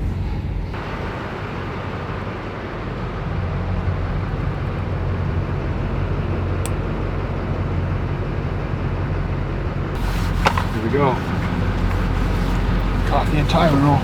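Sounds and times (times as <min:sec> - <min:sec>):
road and wind noise: 0:00.0 - 0:14.0
vehicle engine humming: 0:00.6 - 0:14.0.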